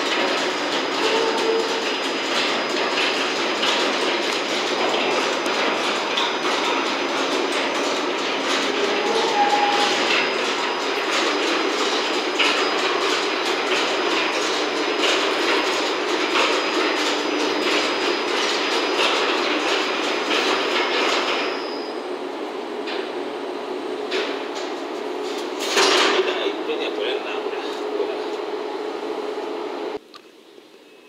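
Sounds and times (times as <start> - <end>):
cable car running noise: 0.0 - 30.0.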